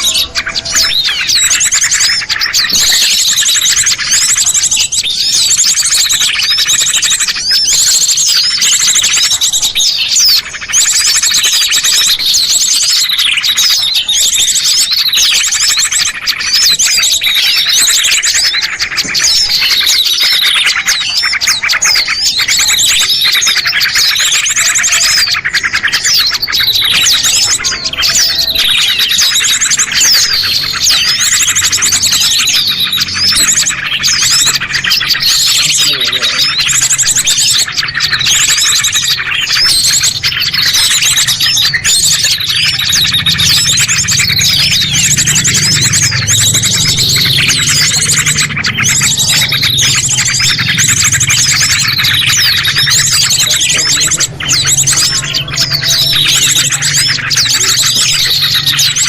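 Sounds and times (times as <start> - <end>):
small birds chirping and twittering: 0.0 - 59.0.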